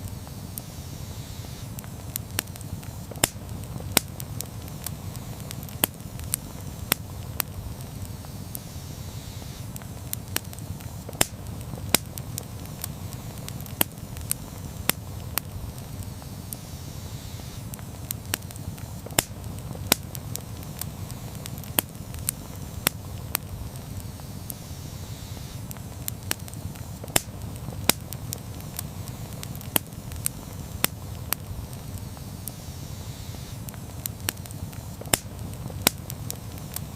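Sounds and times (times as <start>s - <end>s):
campfire crackling: 0.0s - 36.9s.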